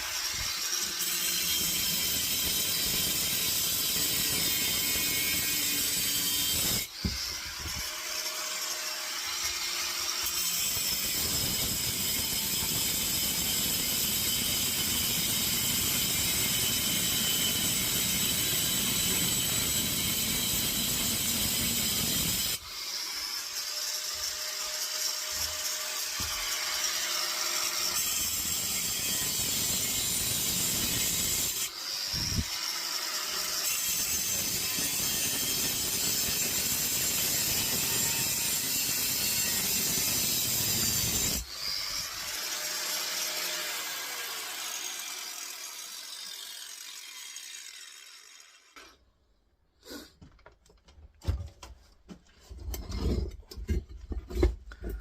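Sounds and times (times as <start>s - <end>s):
angle grinder cutting steel: 0.0s - 49.0s.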